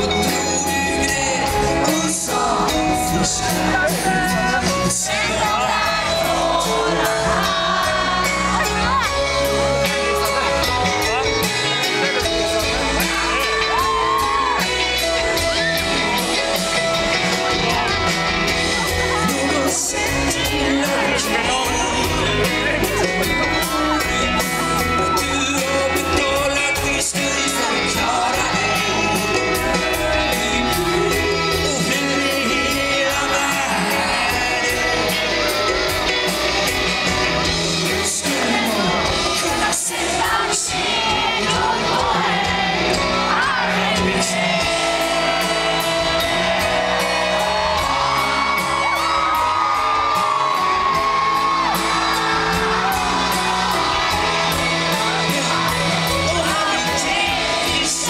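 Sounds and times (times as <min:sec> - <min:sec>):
audience shouting and whooping: 0:00.0 - 0:58.0
live rock band playing: 0:00.0 - 0:58.0
person singing: 0:00.0 - 0:58.0.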